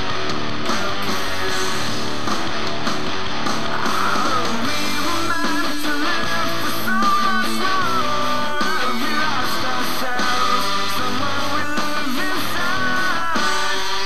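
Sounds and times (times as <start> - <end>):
background music with guitar: 0.0 - 14.0.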